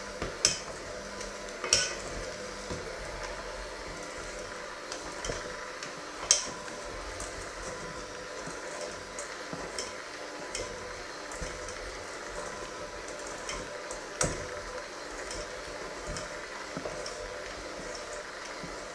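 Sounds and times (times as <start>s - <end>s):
electric hand mixer running: 0.0s - 18.9s.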